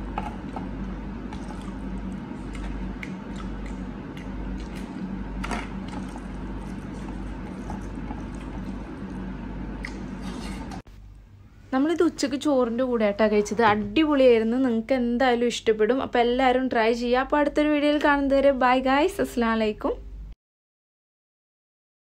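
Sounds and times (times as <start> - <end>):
low background hum and hiss: 0.0 - 20.4.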